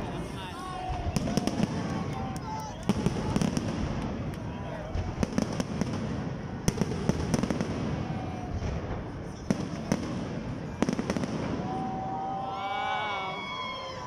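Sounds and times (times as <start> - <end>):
large crowd noise: 0.0 - 14.0.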